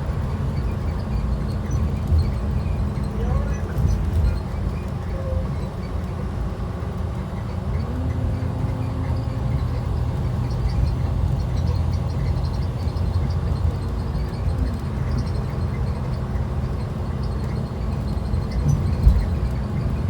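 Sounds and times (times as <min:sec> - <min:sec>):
bus body rattling: 0:00.0 - 0:20.0
bus diesel engine rumbling: 0:00.0 - 0:20.0.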